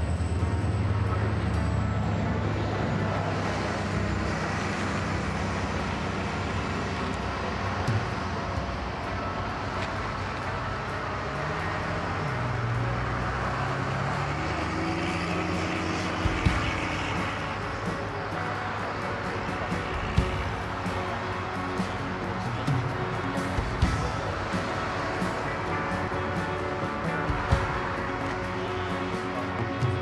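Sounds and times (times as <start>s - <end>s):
diesel locomotive engine drone: 0.0s - 30.0s.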